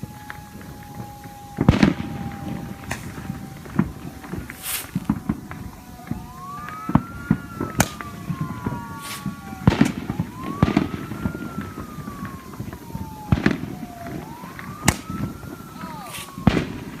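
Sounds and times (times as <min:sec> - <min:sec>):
firework pops and bangs: 0:00.0 - 0:17.0
siren wailing: 0:00.0 - 0:17.0.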